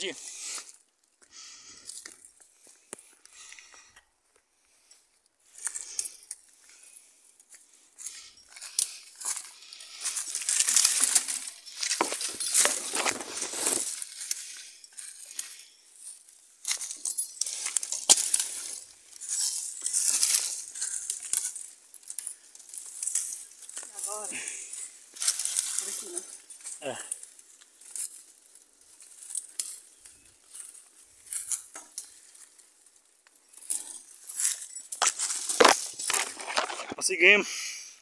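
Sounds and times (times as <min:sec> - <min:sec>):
twigs and leaves crackling: 0:00.1 - 0:37.3
footsteps crunching: 0:00.2 - 0:32.9, 0:33.5 - 0:37.2.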